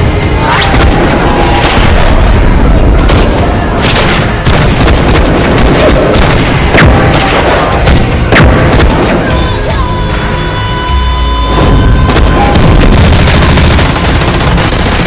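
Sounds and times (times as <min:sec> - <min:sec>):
gunshots: 0:00.0 - 0:09.7, 0:12.0 - 0:15.0
dense music track: 0:00.0 - 0:15.0
heavy booms: 0:00.6 - 0:09.4, 0:11.5 - 0:15.0.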